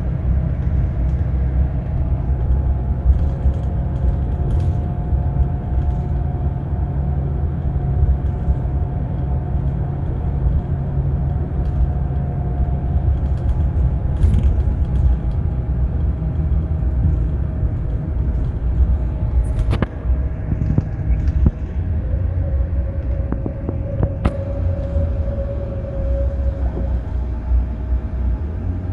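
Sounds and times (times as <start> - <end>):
diesel engine rumble with whine: 0.0 - 28.9.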